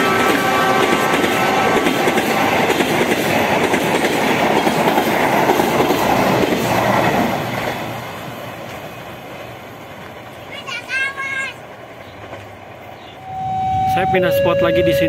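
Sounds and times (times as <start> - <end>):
train wheels clattering on rails: 0.0 - 13.2.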